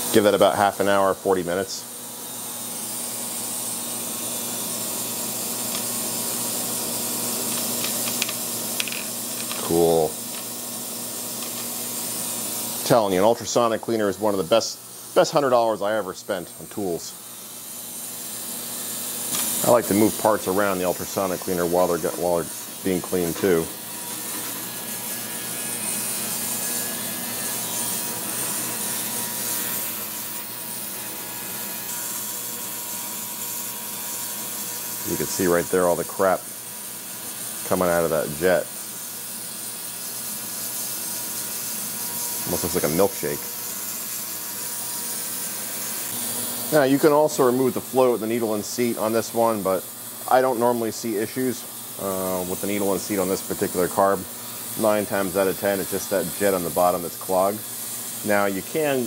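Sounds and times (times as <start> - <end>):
ultrasonic cleaner hissing and humming: 0.0 - 59.0.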